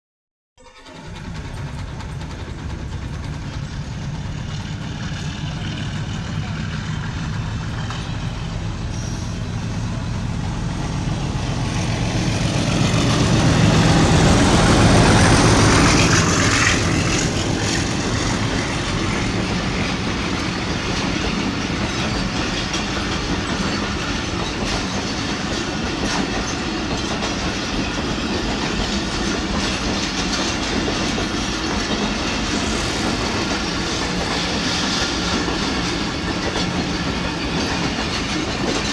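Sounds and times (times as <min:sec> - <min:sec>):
train wheels clattering over rails: 0:00.8 - 0:38.9.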